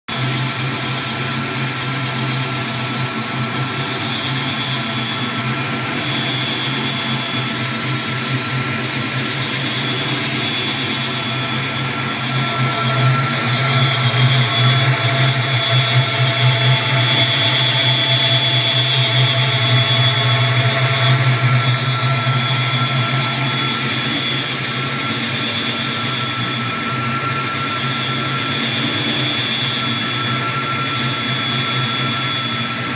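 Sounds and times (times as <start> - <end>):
car engine idling: 0.1 - 32.9
high-pitched whistle: 3.4 - 32.9.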